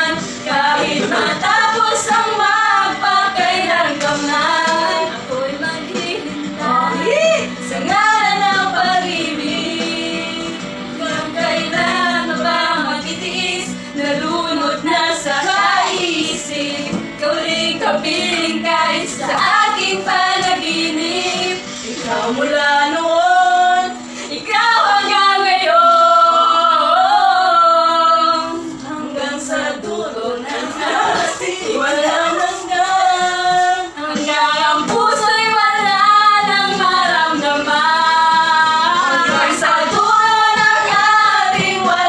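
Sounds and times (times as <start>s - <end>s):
women singing together: 0.0s - 42.0s.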